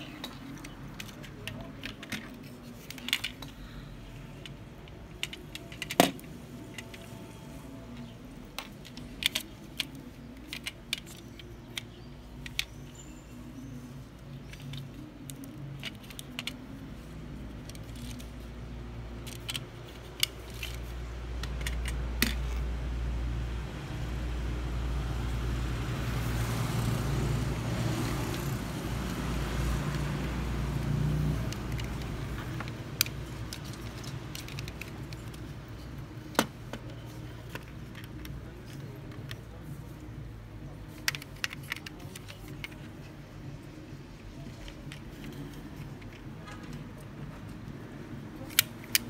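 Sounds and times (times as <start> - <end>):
toy car parts clicking: 0.0 - 22.7, 27.8 - 49.0.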